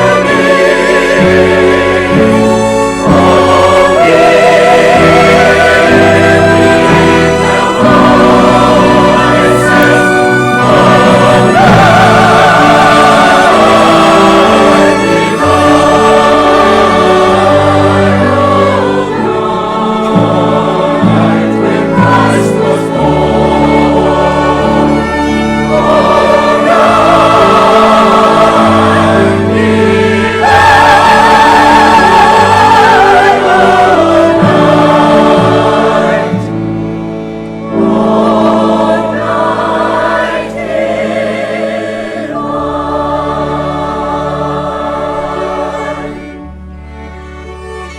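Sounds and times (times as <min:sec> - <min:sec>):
choir singing: 0:00.0 - 0:47.9
orchestral accompaniment: 0:00.0 - 0:47.9.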